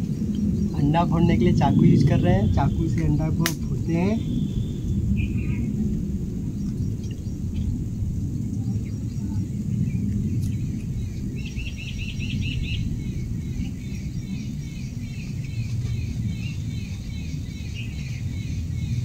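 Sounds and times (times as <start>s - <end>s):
bird chirping: 0.0s - 19.0s
steady low rumble: 0.0s - 19.0s.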